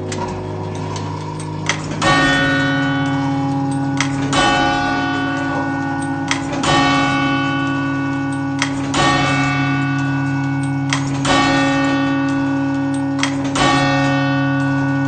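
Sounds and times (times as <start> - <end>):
tower clock bell ringing: 0.0 - 15.0.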